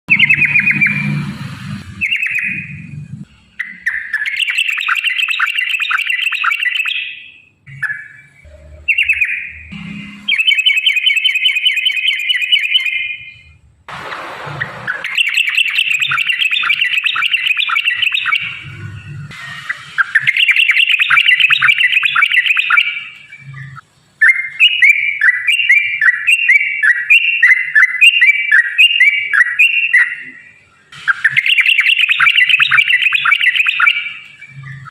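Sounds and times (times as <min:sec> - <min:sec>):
quick repeated bird chirps: 0:00.1 - 0:01.2, 0:02.0 - 0:02.9, 0:03.6 - 0:09.7, 0:10.3 - 0:13.5, 0:14.5 - 0:18.9, 0:19.6 - 0:34.9.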